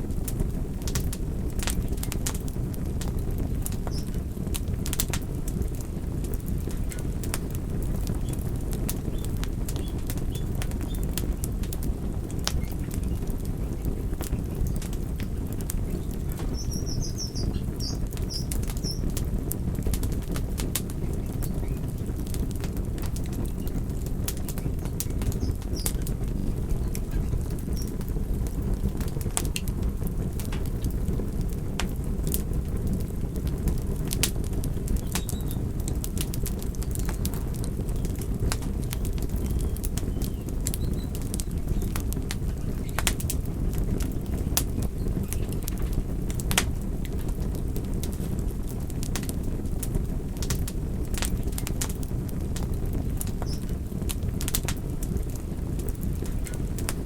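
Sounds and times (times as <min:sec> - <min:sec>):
fire crackling and popping: 0:00.0 - 0:57.0
wood fire flames rushing: 0:00.0 - 0:57.0.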